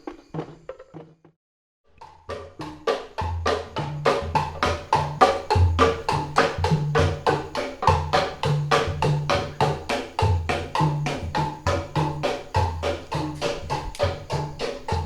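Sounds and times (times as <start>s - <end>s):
percussion group playing fast beat: 2.1s - 15.0s
wooden knocks from slit drums: 2.3s - 15.0s.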